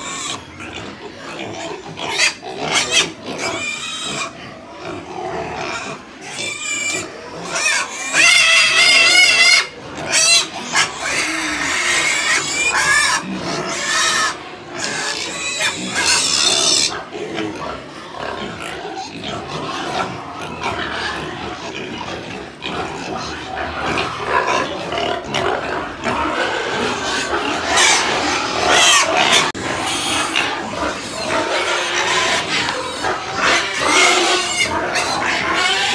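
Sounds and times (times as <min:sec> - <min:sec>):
pigs grunting: 0:00.0 - 0:35.9
pigs squealing: 0:00.0 - 0:35.9.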